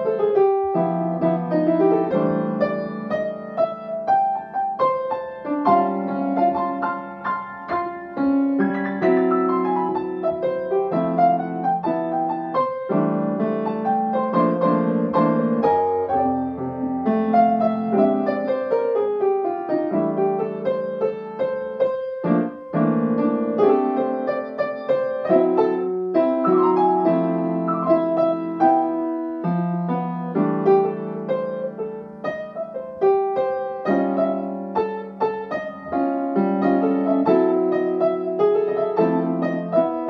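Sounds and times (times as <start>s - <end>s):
grand piano playing: 0.0s - 40.0s.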